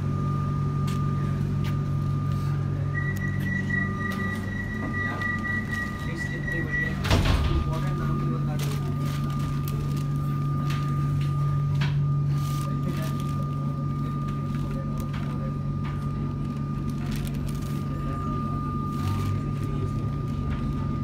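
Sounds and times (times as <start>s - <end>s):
high-pitched drive whine: 0.0s - 21.0s
train interior low hum: 0.0s - 21.0s.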